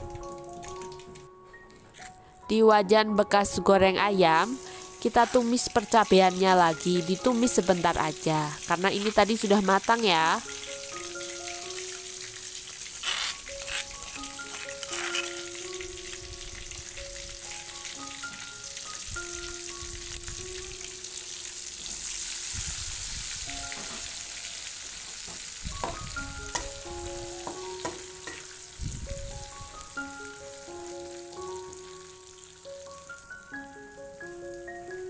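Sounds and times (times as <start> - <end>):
paste sizzling in hot oil: 4.4 - 34.5.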